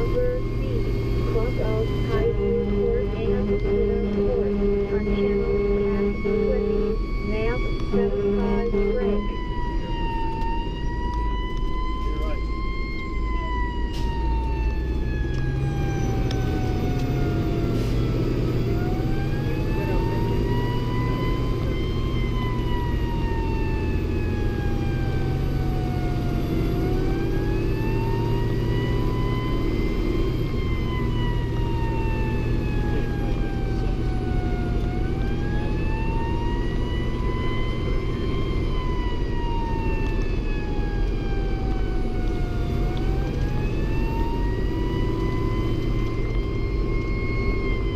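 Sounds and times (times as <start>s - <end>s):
engine and road noise: 0.0s - 47.9s
fire engine wail siren: 0.0s - 47.9s.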